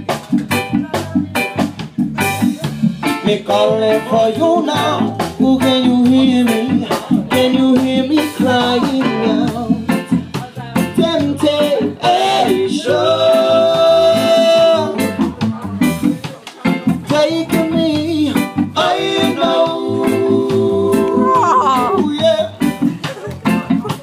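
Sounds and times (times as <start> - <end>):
drum kit beat: 0.0 - 24.0
electric guitar: 0.0 - 24.0
person singing: 2.6 - 15.2, 17.0 - 24.0.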